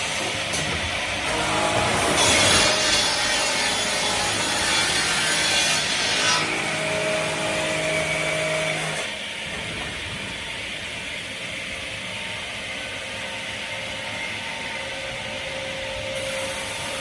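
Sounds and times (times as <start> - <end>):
saw running steadily: 0.0 - 17.0.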